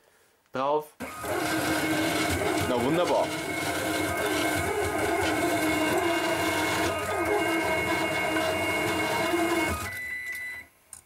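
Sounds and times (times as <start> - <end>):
stepper motors whining: 1.0 - 10.0.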